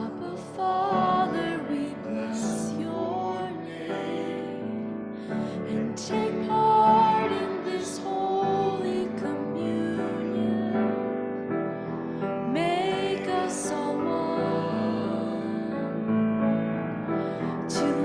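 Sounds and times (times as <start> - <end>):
hymn singing: 0.0 - 16.3, 17.2 - 18.0
piano accompaniment: 0.0 - 18.0.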